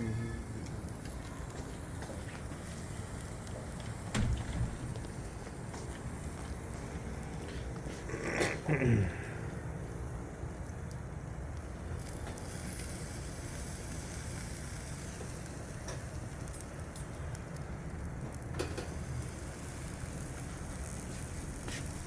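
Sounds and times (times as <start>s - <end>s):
grill fire sizzling: 0.0s - 22.0s.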